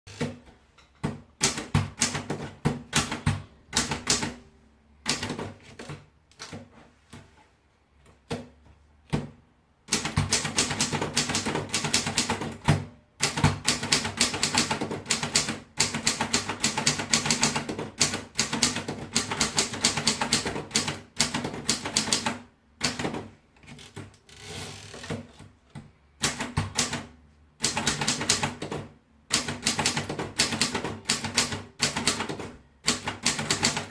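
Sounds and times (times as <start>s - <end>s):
typewriter typing: 1.0s - 4.4s, 5.0s - 6.7s, 9.9s - 25.4s, 26.2s - 33.9s.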